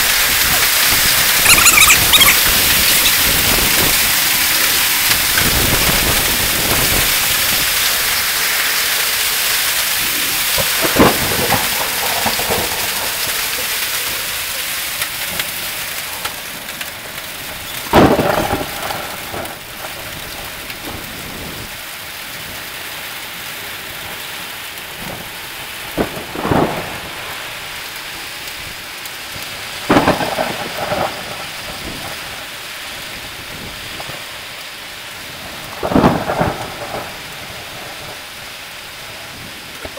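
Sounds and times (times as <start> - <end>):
hail and rain beating down: 0.0 - 39.9.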